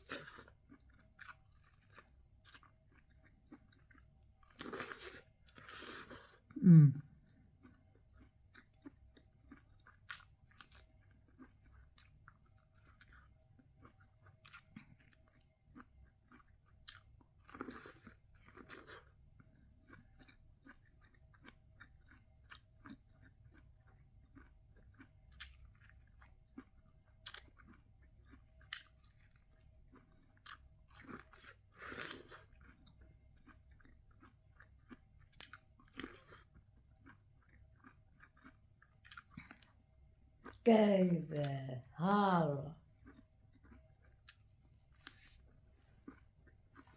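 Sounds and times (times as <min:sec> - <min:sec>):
person chewing sweet corn: 0:00.0 - 0:46.9.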